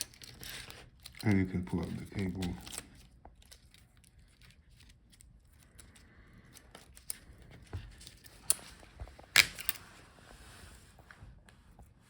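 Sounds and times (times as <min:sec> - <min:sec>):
rustling of small plastic parts: 0:00.0 - 0:10.0.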